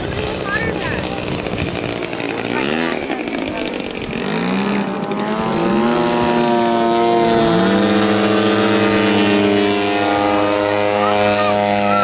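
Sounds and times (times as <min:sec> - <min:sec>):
model plane engine and propeller: 0:00.0 - 0:12.0.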